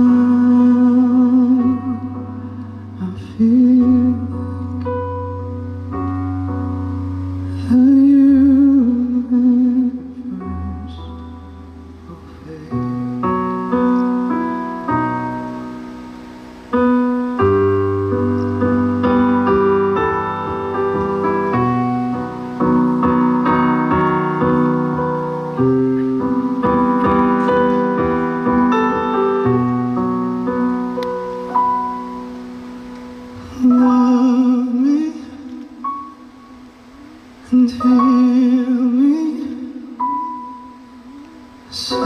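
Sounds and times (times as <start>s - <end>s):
piano chords over bass notes: 0.0s - 42.0s.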